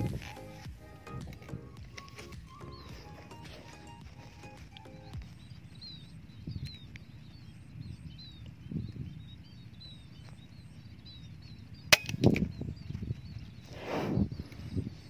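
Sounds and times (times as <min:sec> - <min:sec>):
small birds chirping: 0:00.0 - 0:15.0
wind rumbling on microphone: 0:00.0 - 0:15.0.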